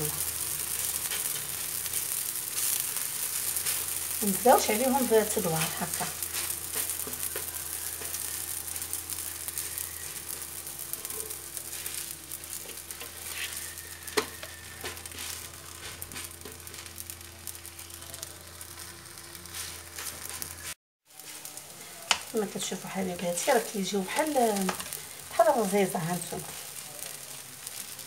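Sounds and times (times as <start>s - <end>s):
flatbread sizzling in oil: 0.0s - 28.0s.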